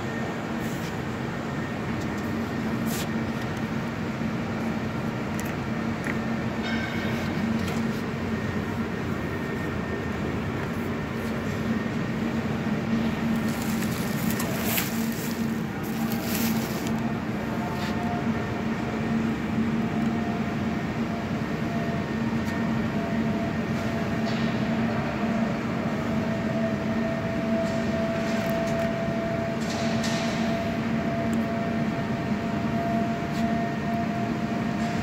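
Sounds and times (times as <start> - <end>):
punch press machine humming: 0.0 - 35.0.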